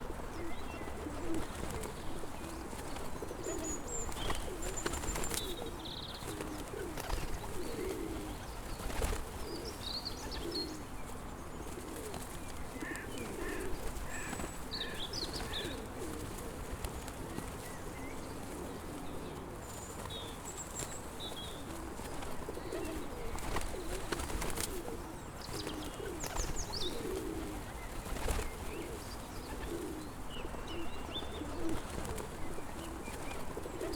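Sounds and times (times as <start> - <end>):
pigeons cooing: 0.0 - 33.9
small birds chirping: 0.0 - 33.9.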